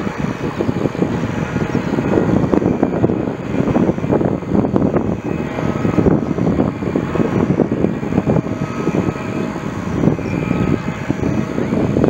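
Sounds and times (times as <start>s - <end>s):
helicopter rotor and engine: 0.0s - 12.0s
turbine whine: 0.0s - 12.0s.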